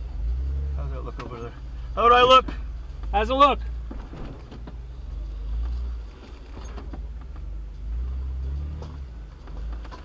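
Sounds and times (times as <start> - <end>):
knocks and creaks: 1.0 - 1.7, 2.3 - 10.0.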